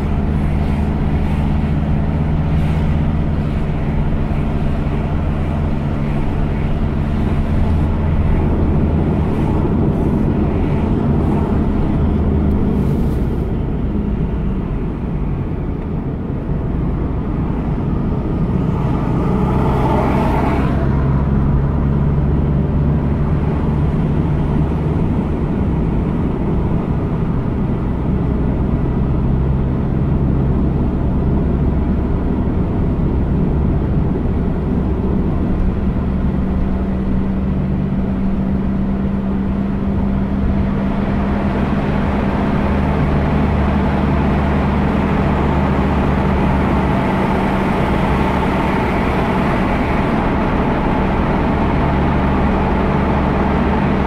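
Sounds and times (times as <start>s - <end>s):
car engine hum: 0.0s - 54.0s
road rumble: 0.0s - 54.0s.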